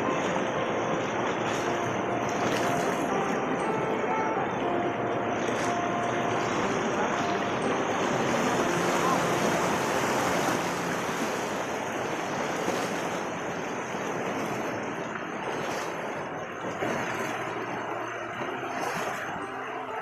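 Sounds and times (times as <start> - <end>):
river running over rocks: 0.0 - 20.0.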